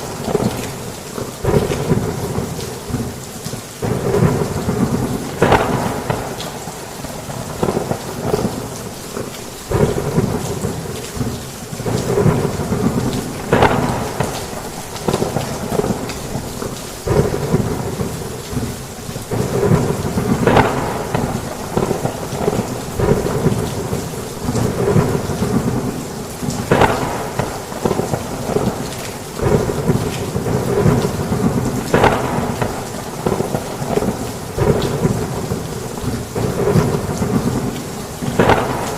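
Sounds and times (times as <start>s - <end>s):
rolling thunder: 0.0s - 3.2s, 3.8s - 38.9s
heavy rain on a roof: 0.0s - 38.9s
sharp thunder cracks: 1.4s - 3.2s, 3.8s - 38.9s.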